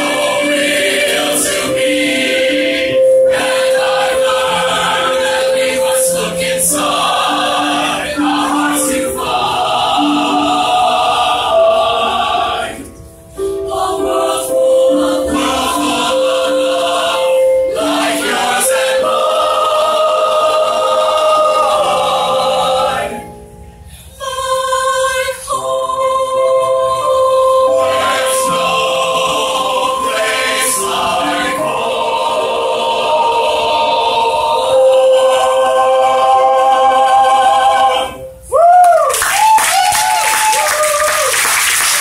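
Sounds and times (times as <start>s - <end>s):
mixed choir singing: 0.0s - 38.6s.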